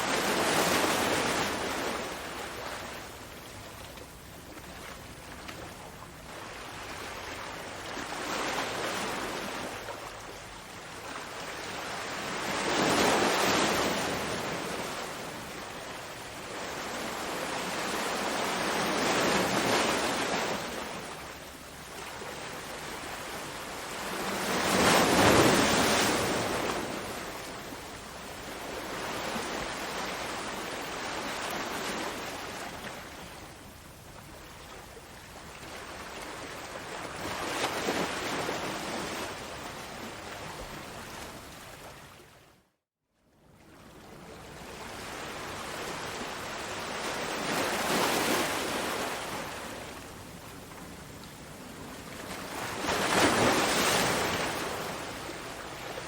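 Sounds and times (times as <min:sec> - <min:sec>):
ocean waves breaking on shore: 0:00.0 - 0:42.5, 0:43.6 - 0:56.0.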